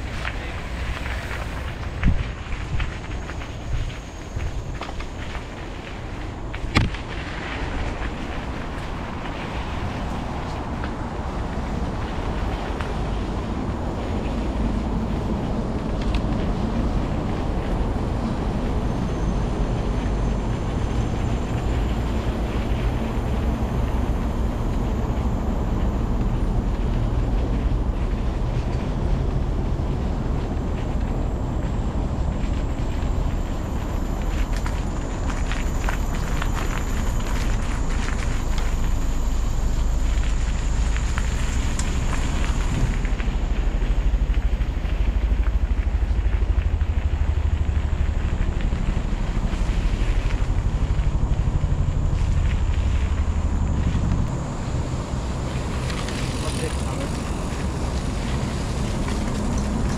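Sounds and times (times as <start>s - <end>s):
bike tyres clicking on ground: 0.0s - 59.9s
wind buffeting microphone: 0.0s - 59.9s.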